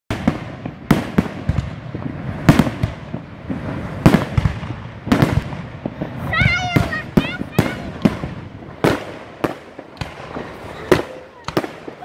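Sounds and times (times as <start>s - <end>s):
crackling pops: 0.1s - 12.0s
firework bangs: 0.1s - 12.0s.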